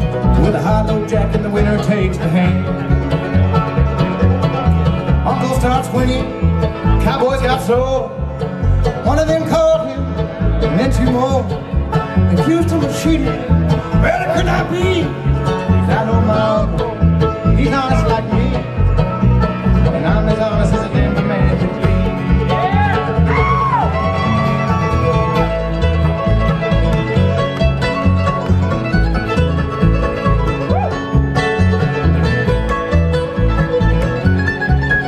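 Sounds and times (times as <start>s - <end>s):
acoustic guitar strummed: 0.0s - 35.0s
bluegrass band playing: 0.0s - 35.0s
pulsing bass beat: 0.0s - 35.0s.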